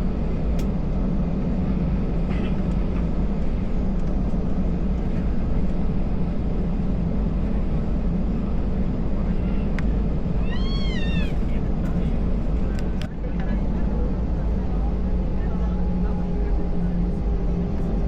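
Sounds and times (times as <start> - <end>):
aircraft engines rumbling in cabin: 0.0 - 18.0.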